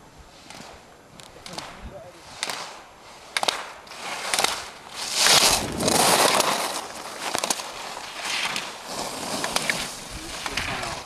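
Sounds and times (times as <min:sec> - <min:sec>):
ski edges scraping on snow: 0:00.3 - 0:11.0.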